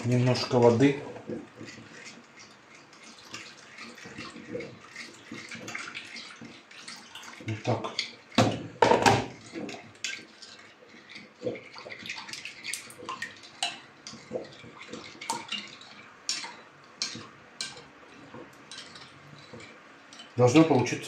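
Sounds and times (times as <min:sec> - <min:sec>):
spoon clinking and scraping bowl: 0:00.2 - 0:21.0.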